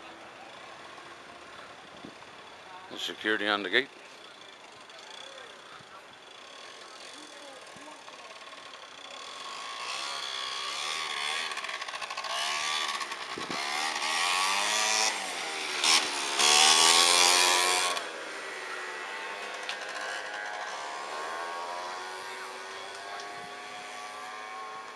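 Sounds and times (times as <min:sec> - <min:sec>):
small motorcycle engine revving: 0:00.0 - 0:24.9.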